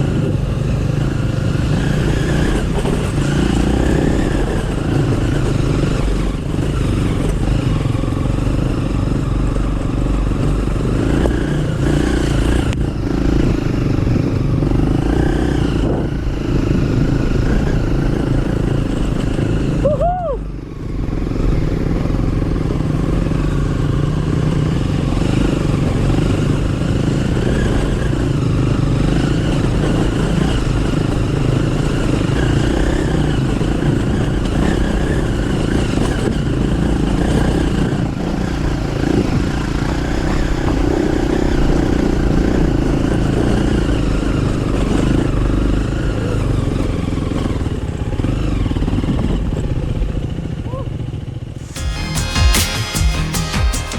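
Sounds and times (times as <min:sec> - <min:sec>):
small motorcycle engine running: 0:00.0 - 0:53.9.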